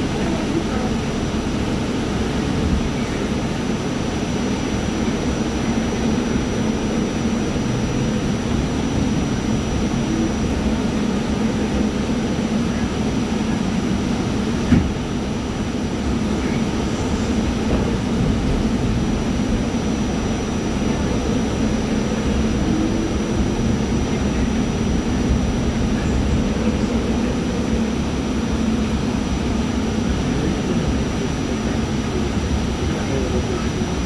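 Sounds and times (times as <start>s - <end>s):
subway car rumble and hum: 0.0s - 34.0s.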